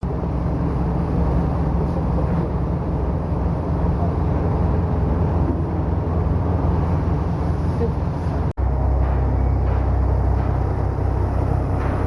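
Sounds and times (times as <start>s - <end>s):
marine diesel machinery rumble: 0.0s - 12.0s.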